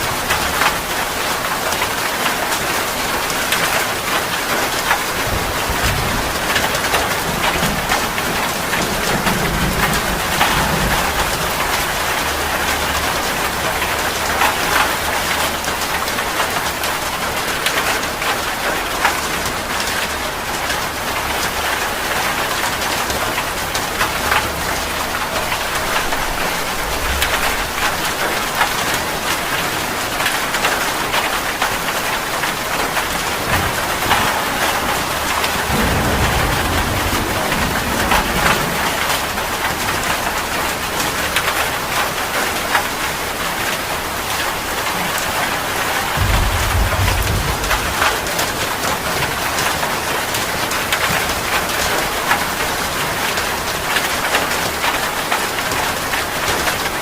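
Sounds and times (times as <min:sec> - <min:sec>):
heavy rain: 0:00.0 - 0:57.0
thunder rumbling: 0:00.1 - 0:55.3.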